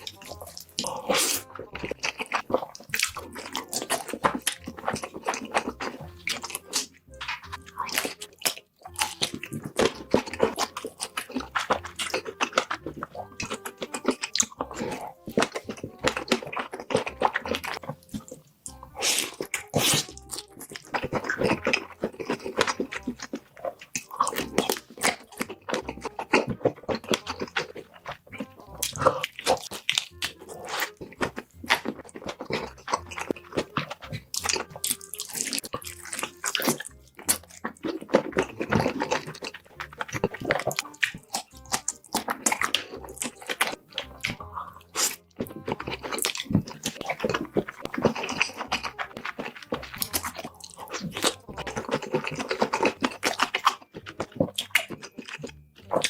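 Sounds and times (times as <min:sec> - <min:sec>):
background music: 0:00.0 - 0:56.0
wet chewing and crunching: 0:00.0 - 0:56.0.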